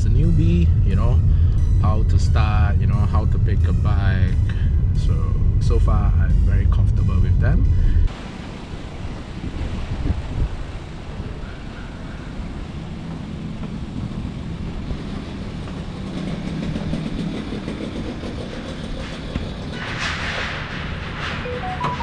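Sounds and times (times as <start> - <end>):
road noise: 0.0 - 22.0
vehicle engine rumbling: 0.0 - 22.0.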